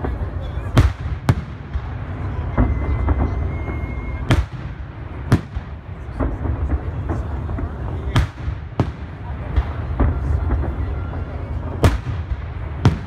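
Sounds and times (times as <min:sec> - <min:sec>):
firework bangs: 0:00.0 - 0:13.0
small firework pops: 0:00.0 - 0:13.0.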